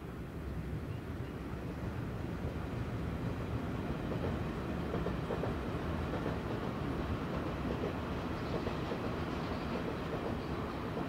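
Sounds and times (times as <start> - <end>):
train wheels rumbling on track: 0.6 - 11.0.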